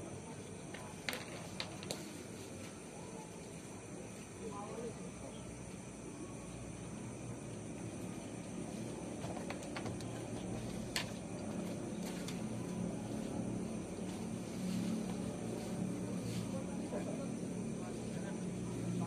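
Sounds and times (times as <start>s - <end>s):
crickets chirping: 0.0s - 19.0s
outdoor background noise: 0.0s - 19.0s.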